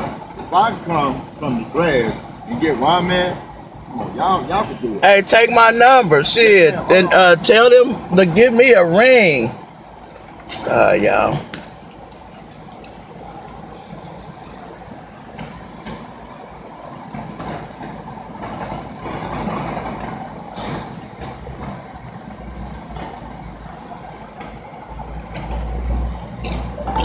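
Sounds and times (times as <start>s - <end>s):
car engine rumbling: 0.0s - 27.0s.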